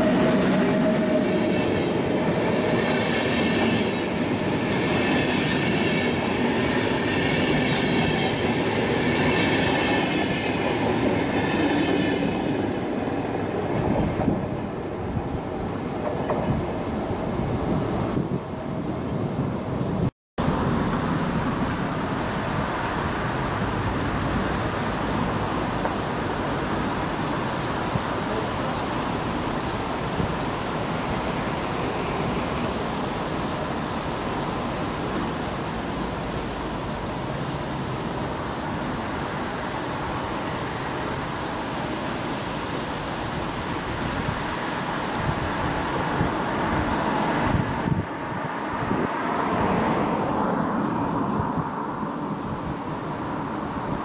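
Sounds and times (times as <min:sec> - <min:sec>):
road traffic noise: 0:00.0 - 0:17.0, 0:20.4 - 0:54.0
wind buffeting microphone: 0:00.0 - 0:54.0.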